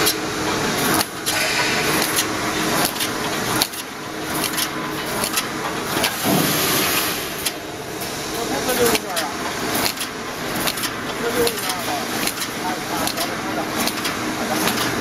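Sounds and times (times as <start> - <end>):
welding machine clattering: 0.0 - 15.0.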